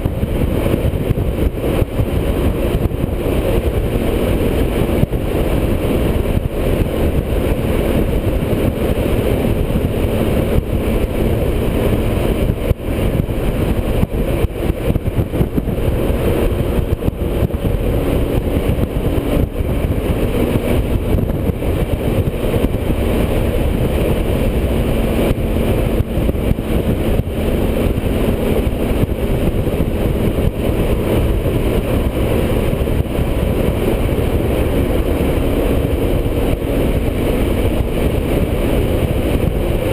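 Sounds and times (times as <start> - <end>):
motorcycle engine drone: 0.0 - 39.9
road and wind rush: 0.0 - 39.9.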